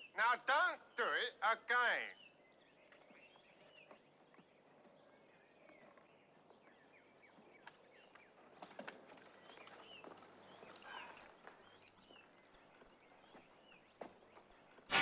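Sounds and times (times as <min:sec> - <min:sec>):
faint birdsong: 0:00.0 - 0:15.0
outdoor ambience: 0:00.0 - 0:15.0.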